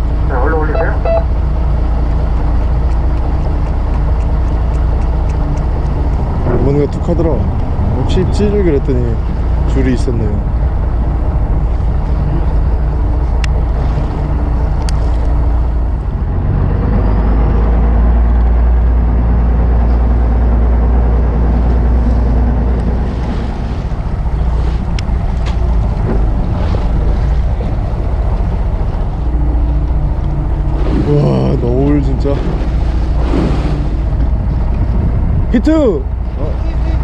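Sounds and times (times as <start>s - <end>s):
boat engine droning: 0.0s - 37.0s
water rushing along hull: 0.0s - 37.0s.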